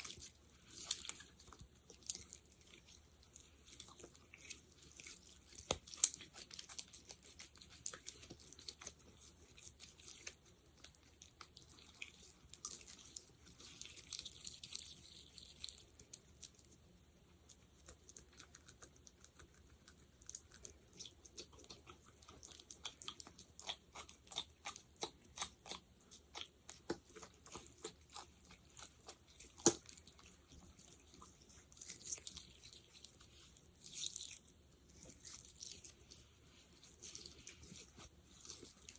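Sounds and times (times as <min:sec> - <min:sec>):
fingers working sticky gel: 0:00.0 - 0:16.8, 0:17.4 - 0:38.9.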